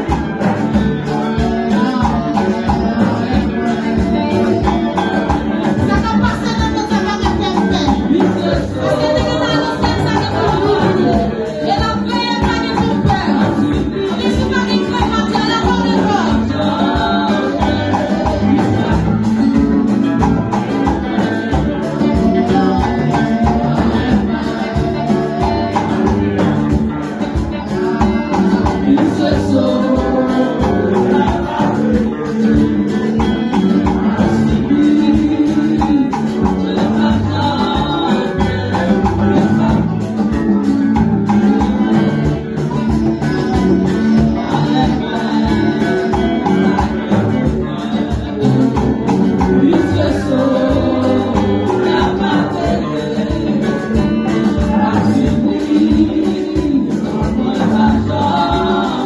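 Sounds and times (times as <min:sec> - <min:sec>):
instrumental accompaniment with beat: 0:00.0 - 0:59.0
women singing into microphones: 0:01.0 - 0:59.0.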